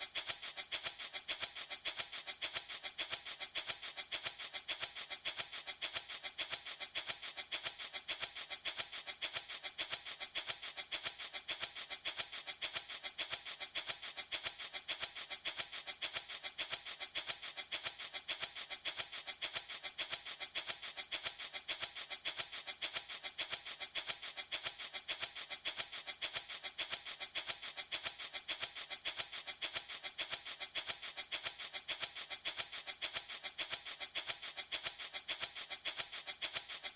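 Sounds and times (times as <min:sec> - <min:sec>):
baby rattle shaking: 0:00.0 - 0:36.9.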